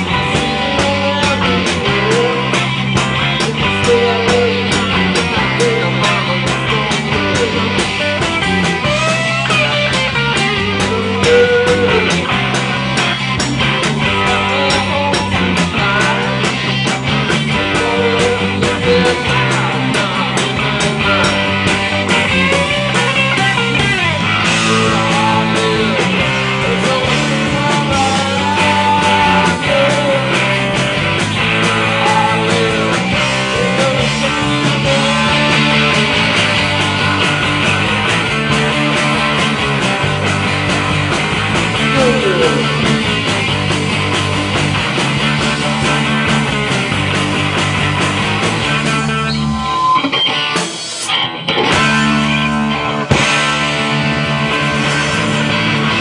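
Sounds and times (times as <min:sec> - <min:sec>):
bending lead guitar notes: 0:00.0 - 0:56.0
live rock band playing: 0:00.0 - 0:56.0.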